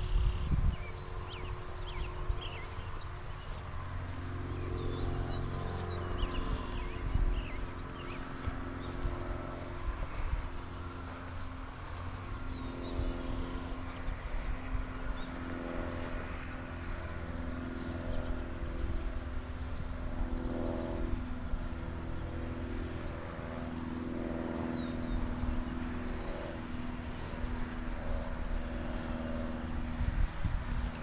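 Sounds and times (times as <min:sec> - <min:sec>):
distant engine running: 0:00.0 - 0:31.0
wind rumble on microphone: 0:00.0 - 0:31.0.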